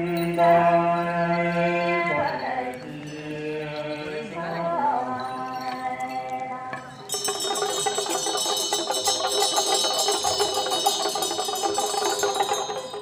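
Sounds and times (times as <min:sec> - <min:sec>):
chanting voices: 0:00.0 - 0:13.0
small bells jangling: 0:00.0 - 0:13.0.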